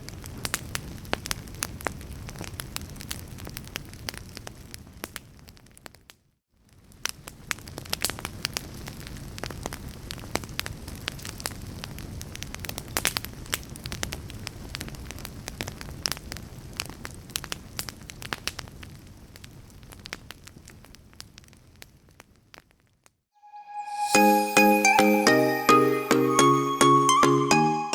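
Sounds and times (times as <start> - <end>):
low rumble of fire: 0.0 - 23.0
fire crackling and popping: 0.0 - 23.1.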